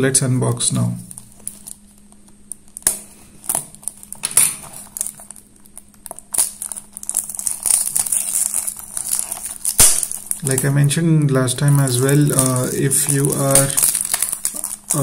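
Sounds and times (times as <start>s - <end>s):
plastic wrap crinkling: 1.0s - 15.0s.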